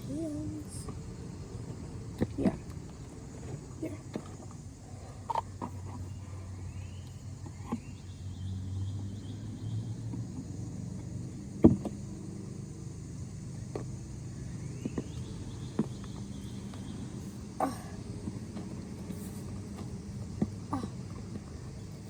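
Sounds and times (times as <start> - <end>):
car engine rumble passing: 0.0 - 22.0.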